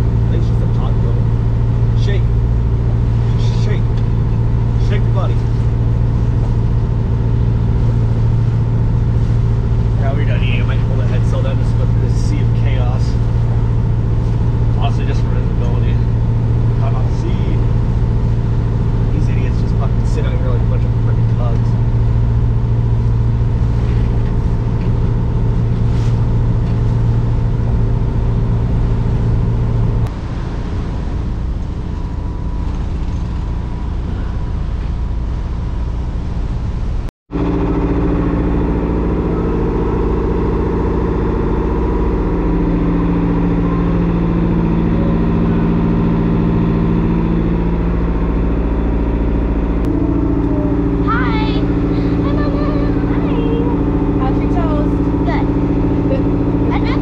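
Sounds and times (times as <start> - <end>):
boat diesel engine droning: 0.0 - 57.0.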